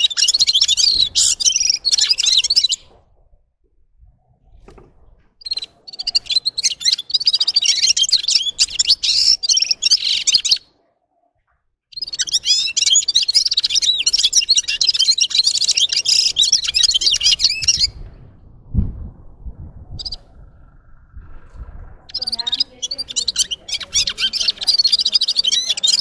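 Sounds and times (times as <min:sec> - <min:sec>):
bird twittering song: 0:00.0 - 0:03.0, 0:04.5 - 0:10.7, 0:11.9 - 0:18.2, 0:19.9 - 0:26.0.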